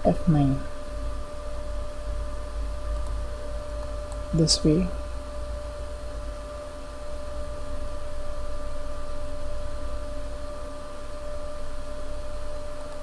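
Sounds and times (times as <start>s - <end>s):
constant mid-pitched tone: 0.0s - 13.0s
electrical hum and hiss: 0.0s - 13.0s.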